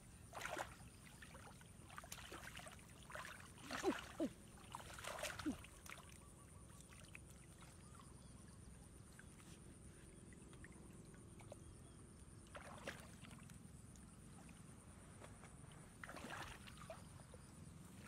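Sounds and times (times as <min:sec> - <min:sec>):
splashing in shallow muddy water: 0:00.1 - 0:08.2, 0:10.2 - 0:14.9, 0:15.5 - 0:18.0.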